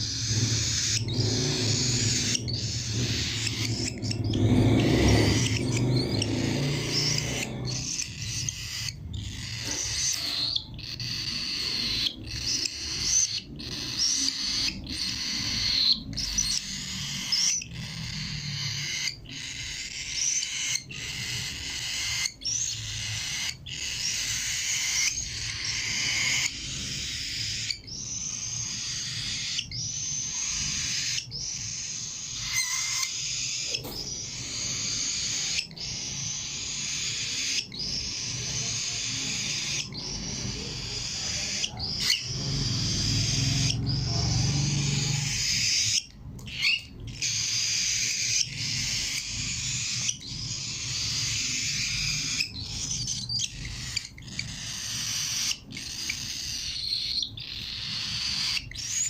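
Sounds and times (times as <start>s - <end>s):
cockatiel screeching: 0.0s - 59.0s.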